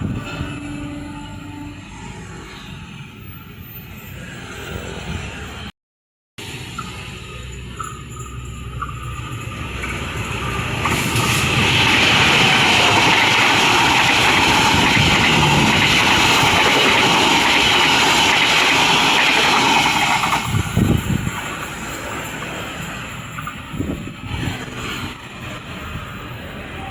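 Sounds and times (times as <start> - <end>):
train passing at speed: 0.0 - 5.7, 6.4 - 26.9.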